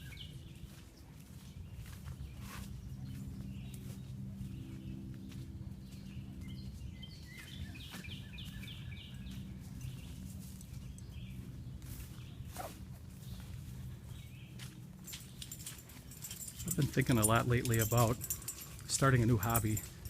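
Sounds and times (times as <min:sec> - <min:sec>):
footsteps on a woodland trail: 0:00.0 - 0:20.0
steady low hum: 0:00.0 - 0:20.0.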